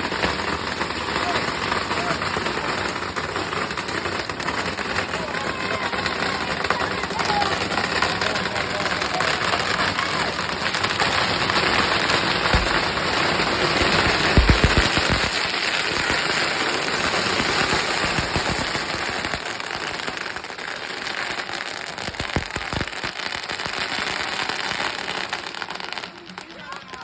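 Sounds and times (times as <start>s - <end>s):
loud firecracker bangs: 0.0s - 25.8s
firecrackers crackling: 0.0s - 27.0s.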